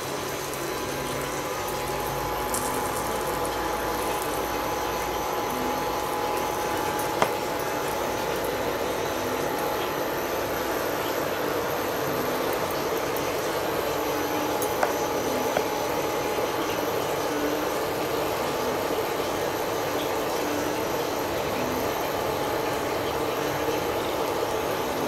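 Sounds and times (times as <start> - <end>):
batter sizzling in oil: 0.0 - 25.0.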